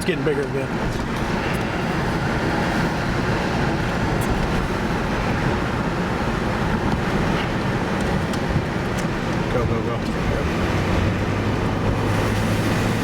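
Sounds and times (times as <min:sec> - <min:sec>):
car driving heard from inside: 0:00.0 - 0:13.0
road and wind noise: 0:00.0 - 0:13.0.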